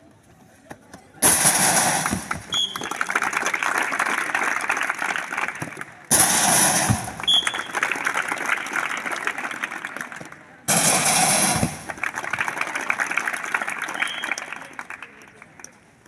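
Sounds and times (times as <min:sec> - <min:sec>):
crowd clapping and cheering: 0:01.3 - 0:16.0.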